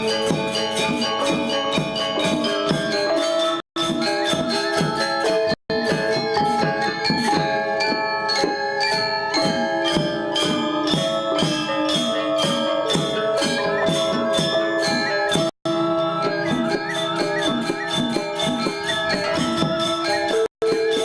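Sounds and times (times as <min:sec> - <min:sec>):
gamelan gong ensemble playing: 0:00.0 - 0:21.0.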